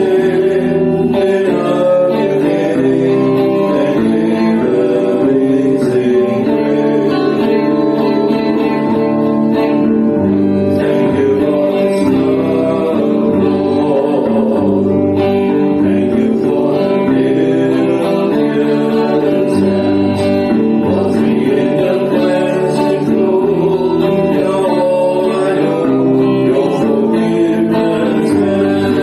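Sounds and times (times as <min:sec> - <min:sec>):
person singing: 0:00.0 - 0:29.0
strummed acoustic guitar: 0:00.0 - 0:29.0.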